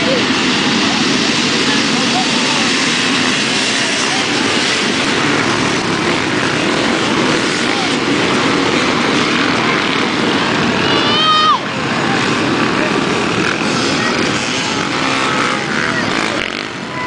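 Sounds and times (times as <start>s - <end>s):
dirt bike engines droning: 0.0s - 17.0s.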